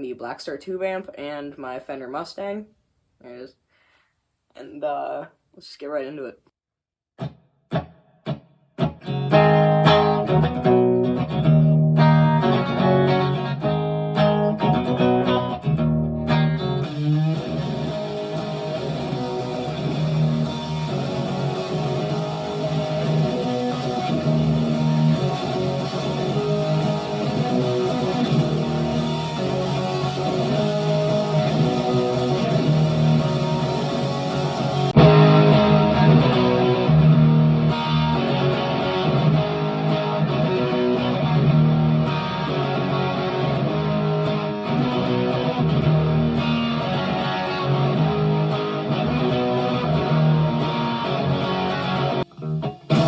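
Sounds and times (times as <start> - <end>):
distorted electric guitar: 7.2 - 53.0.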